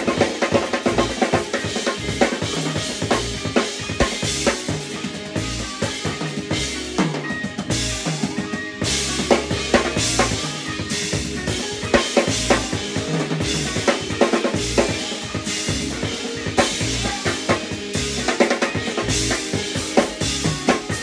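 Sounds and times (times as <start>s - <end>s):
drum kit groove: 0.0s - 21.0s
jazz fusion band playing: 0.0s - 21.0s
sustained electric bass notes: 0.8s - 1.4s, 2.0s - 8.1s, 8.8s - 21.0s.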